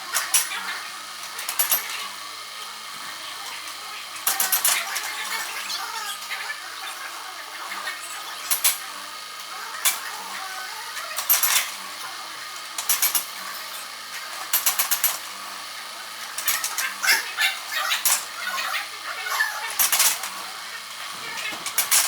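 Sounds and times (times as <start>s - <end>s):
excavator machine noise: 0.0s - 22.0s.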